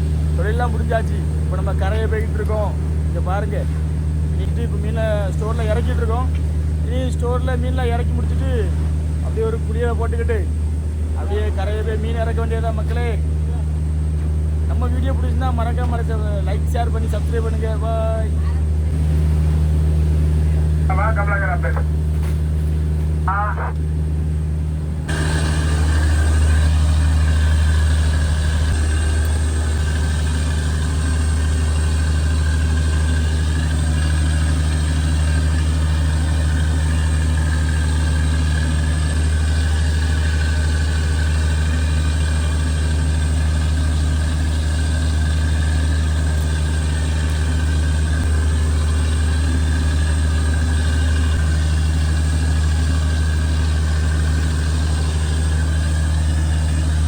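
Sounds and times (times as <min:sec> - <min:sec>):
boat engine low hum: 0:00.0 - 0:57.0.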